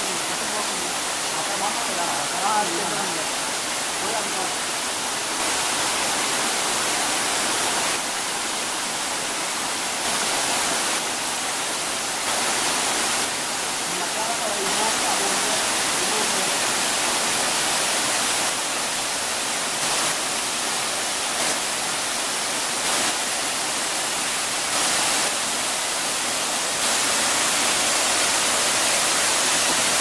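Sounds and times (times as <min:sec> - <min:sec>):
waterfall pouring over rock: 0:00.0 - 0:30.0.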